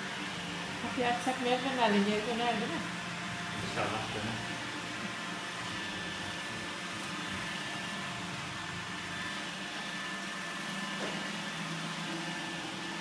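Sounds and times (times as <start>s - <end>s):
robot vacuum cleaner whirring: 0.0s - 13.0s.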